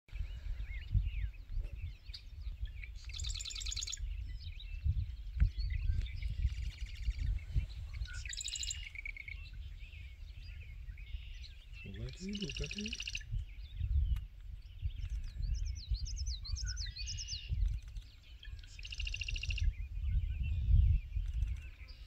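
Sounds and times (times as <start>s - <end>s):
bird chirps: 0.1s - 22.0s
wrens singing rattling trills: 0.7s - 22.0s.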